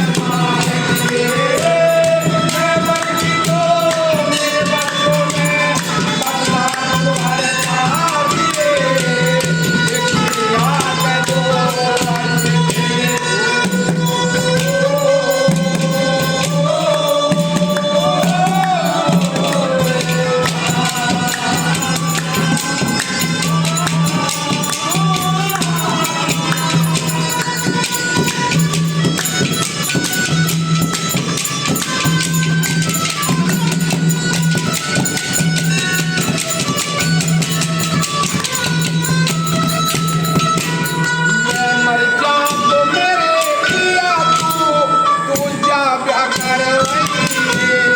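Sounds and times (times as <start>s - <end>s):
fast dense percussion: 0.0s - 47.9s.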